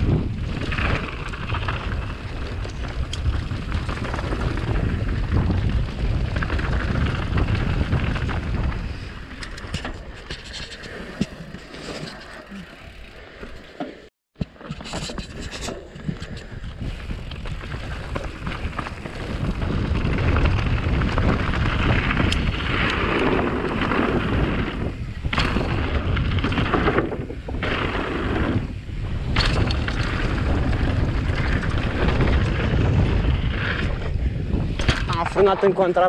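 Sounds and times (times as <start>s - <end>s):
tyres rolling over rocky dirt: 0.0s - 9.0s, 14.6s - 36.0s
wind rumbling on microphone: 0.0s - 13.7s, 14.6s - 36.0s
bike rattling: 0.0s - 36.0s.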